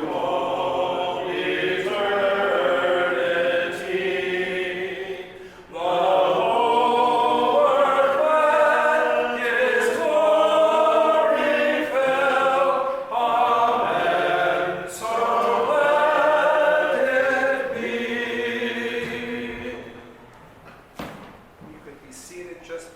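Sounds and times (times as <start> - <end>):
congregation singing unaccompanied: 0.0 - 20.3.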